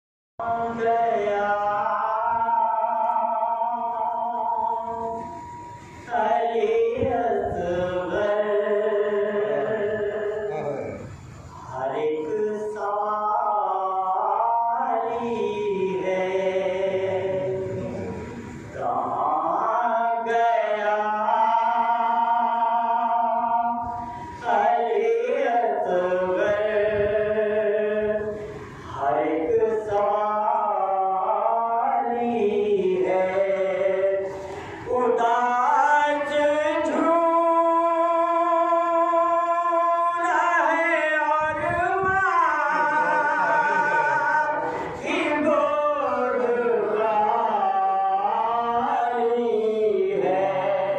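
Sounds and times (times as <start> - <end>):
man chanting unaccompanied: 0.4 - 50.9.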